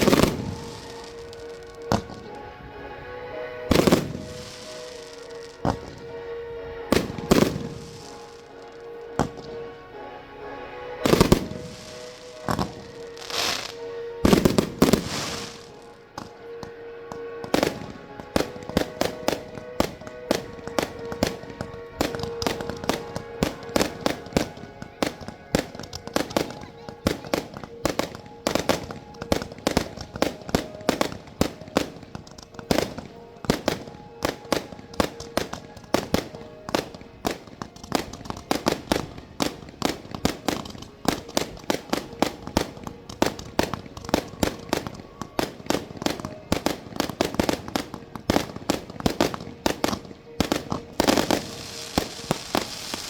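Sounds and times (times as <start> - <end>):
fireworks bangs and cracks: 0.0 - 2.3, 3.7 - 6.0, 6.9 - 9.5, 11.0 - 16.3, 17.5 - 53.0
music playing: 0.0 - 53.0.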